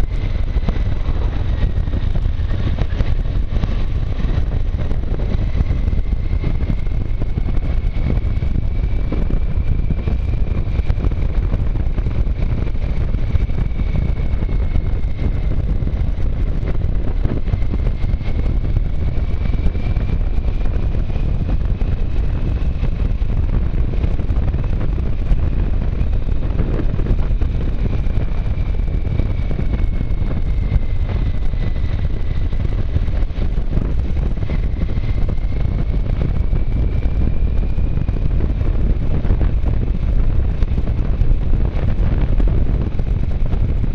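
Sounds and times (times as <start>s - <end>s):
motorcycle engine rumble: 0.0s - 43.9s
wind rush on microphone: 0.0s - 43.9s.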